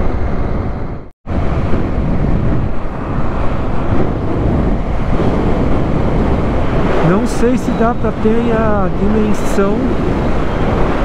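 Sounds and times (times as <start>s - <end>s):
road noise: 0.0s - 11.0s
wind rushing over microphone: 0.0s - 11.0s.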